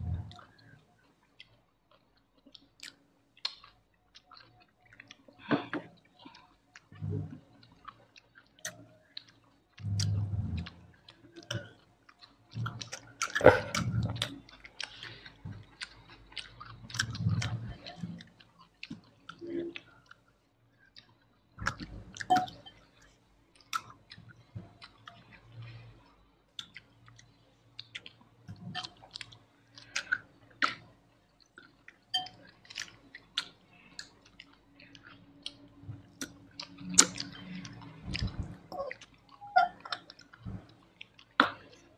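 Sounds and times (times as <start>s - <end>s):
person chewing: 0.1s - 41.9s
mouth clicks and smacks: 1.4s - 20.2s, 26.5s - 41.8s.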